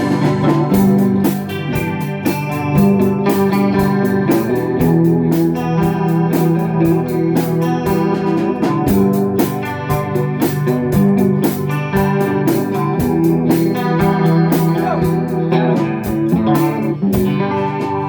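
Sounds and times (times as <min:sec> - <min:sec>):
guitar chords: 0:00.0 - 0:18.0
organ chords: 0:00.0 - 0:18.0
rock band playing: 0:00.0 - 0:18.0
steady drum beat: 0:00.0 - 0:18.0.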